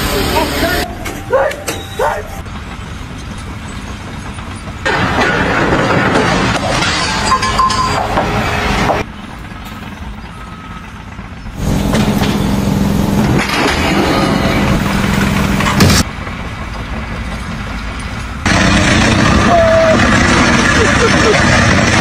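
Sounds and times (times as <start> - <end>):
engine hum: 0.0 - 22.0
loud engine running: 2.4 - 22.0.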